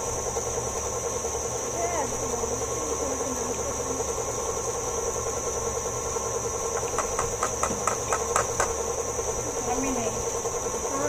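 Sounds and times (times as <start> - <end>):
stand mixer motor whine: 0.0 - 11.0.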